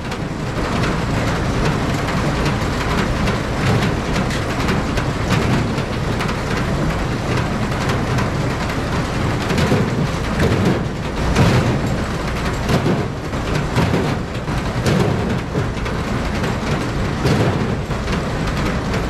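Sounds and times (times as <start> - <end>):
farm machinery rattling: 0.0 - 19.0.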